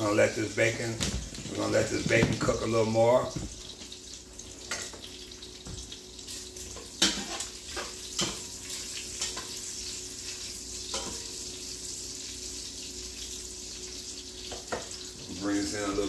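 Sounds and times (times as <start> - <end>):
bacon sizzling: 0.0 - 16.0.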